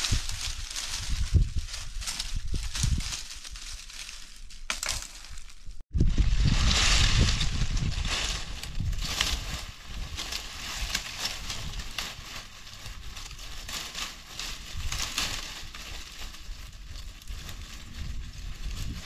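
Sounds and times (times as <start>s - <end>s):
branches dragged over dry leaves: 0.0s - 19.0s.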